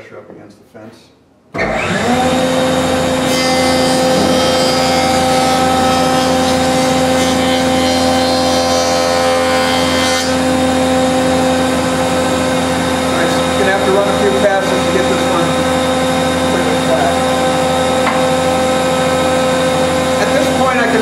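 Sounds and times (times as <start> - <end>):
jointer whining: 1.6 - 21.0.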